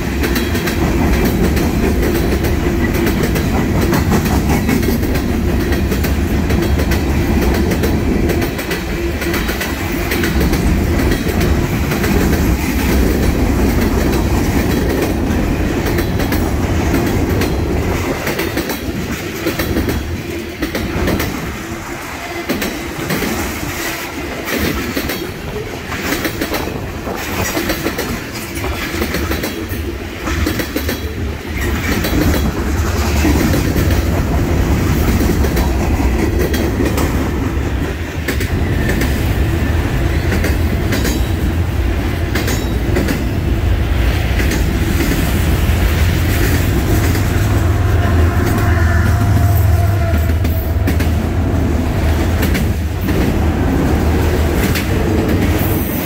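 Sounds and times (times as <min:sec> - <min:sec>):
train wheels clacking over rail joints: 0:00.0 - 0:39.4, 0:40.0 - 0:43.4, 0:44.0 - 0:56.0
freight train rumble: 0:00.0 - 0:56.0.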